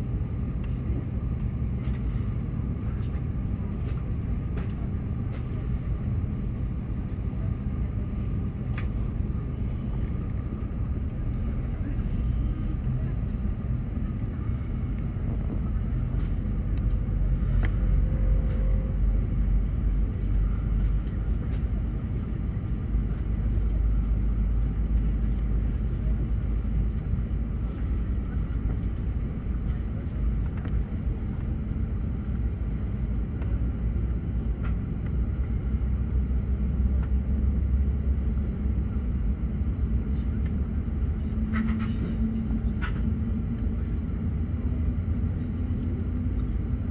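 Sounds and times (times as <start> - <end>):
jet engines idling low rumble: 0.0 - 46.9.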